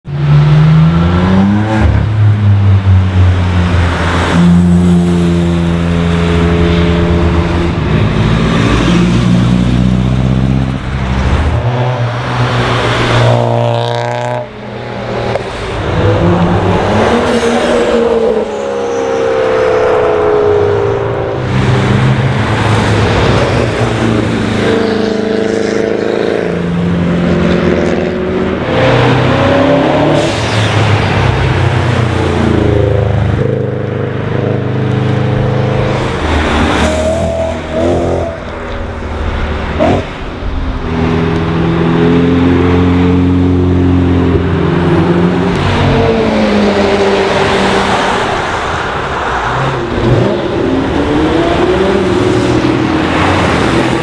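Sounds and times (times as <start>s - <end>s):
cars accelerating past: 0.1s - 54.0s.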